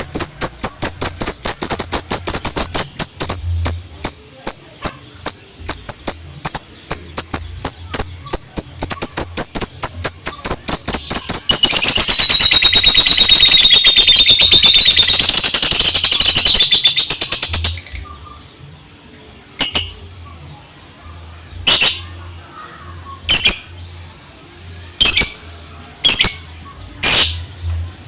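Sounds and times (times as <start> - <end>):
lovebird chirping and trilling: 0.0 - 18.5, 19.6 - 20.1, 21.5 - 22.2, 22.9 - 24.0, 25.0 - 25.4, 26.0 - 27.7.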